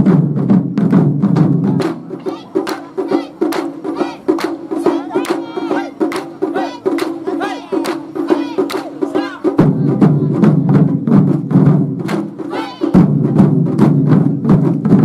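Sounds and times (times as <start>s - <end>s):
deep drum: 0.0s - 7.2s, 7.8s - 15.0s.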